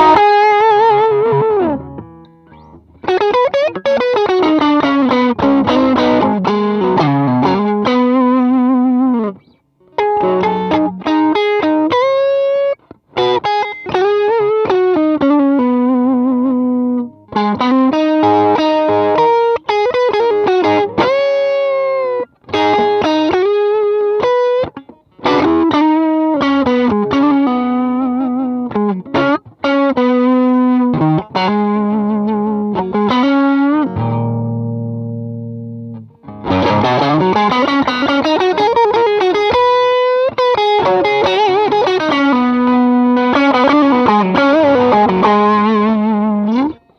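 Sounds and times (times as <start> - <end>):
overdriven electric guitar lead: 0.0 - 46.9.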